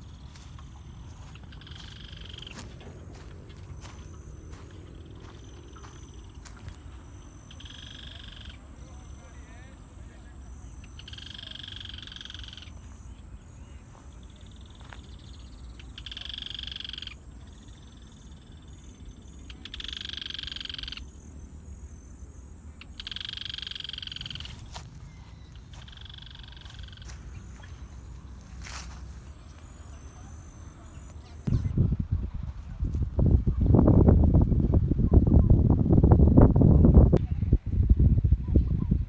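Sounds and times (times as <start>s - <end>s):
frogs calling: 0.0s - 31.7s.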